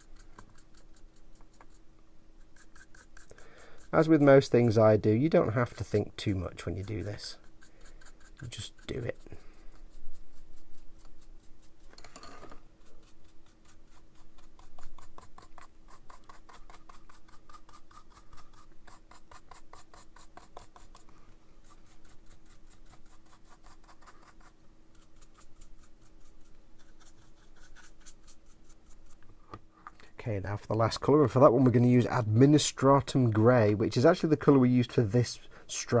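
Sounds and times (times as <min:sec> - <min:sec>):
paintbrush scratching on plastic: 0:00.0 - 0:29.2, 0:30.4 - 0:36.0.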